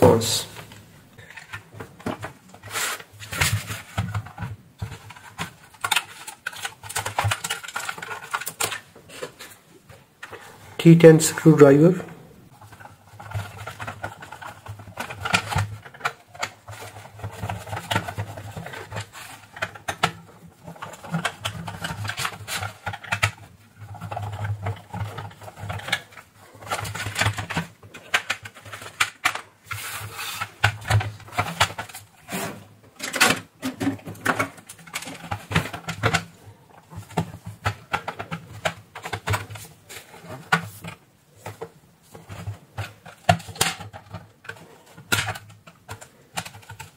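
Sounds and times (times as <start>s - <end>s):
plastic housing clicking and rattling: 1.2s - 9.6s, 12.5s - 29.8s, 30.4s - 32.3s, 32.9s - 46.9s.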